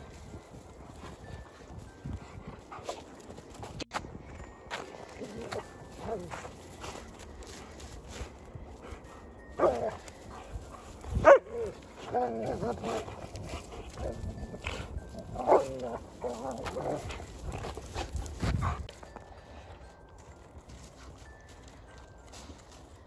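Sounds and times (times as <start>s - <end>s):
dogs barking and play-fighting: 0.0s - 4.0s, 4.7s - 19.8s.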